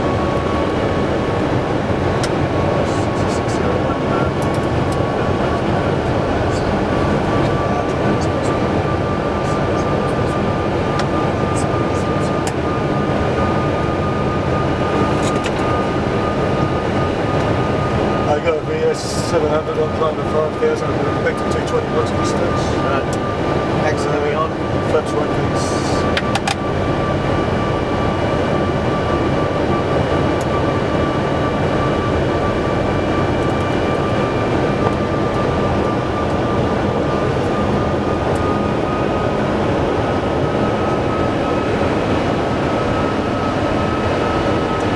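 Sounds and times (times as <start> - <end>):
cockpit airflow and engine noise: 0.0 - 44.9
thin steady whine: 0.0 - 44.9.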